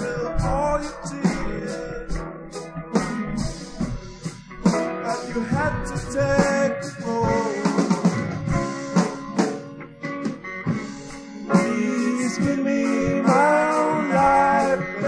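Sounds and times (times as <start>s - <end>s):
drum kit steady beat: 0.0s - 15.0s
rock band playing: 0.0s - 15.0s.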